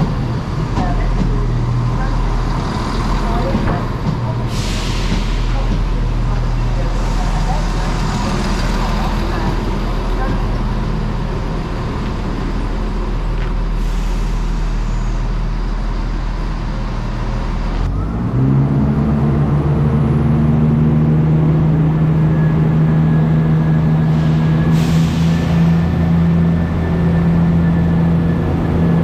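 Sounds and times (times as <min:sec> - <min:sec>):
diesel train engine: 0:00.0 - 0:29.0.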